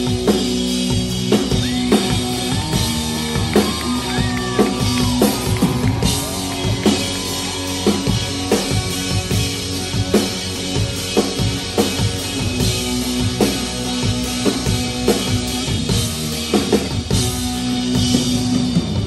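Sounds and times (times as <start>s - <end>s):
live rock band instrumental: 0.0s - 19.0s.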